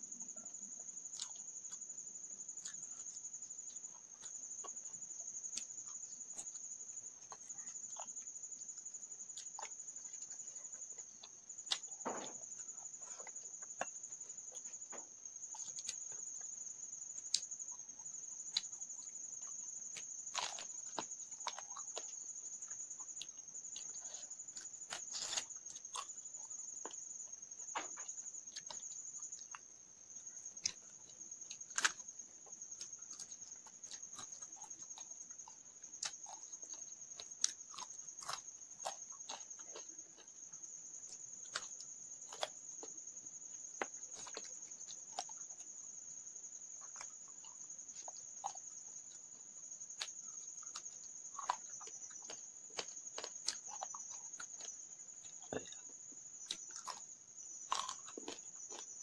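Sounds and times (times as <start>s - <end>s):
person chewing food: 0.8s - 59.0s.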